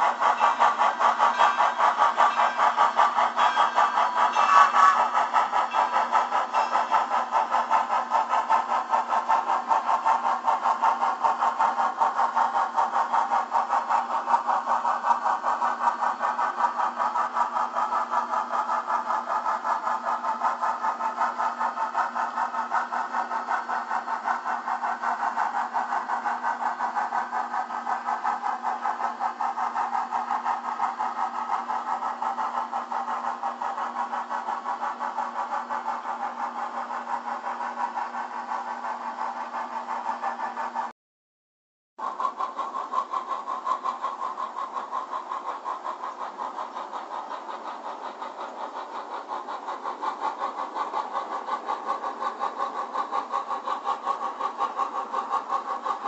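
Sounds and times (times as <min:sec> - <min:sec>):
fast even clicking of wheels: 0:00.0 - 0:40.9, 0:42.0 - 0:56.0
model train motor whirring: 0:00.0 - 0:40.9, 0:42.0 - 0:56.0.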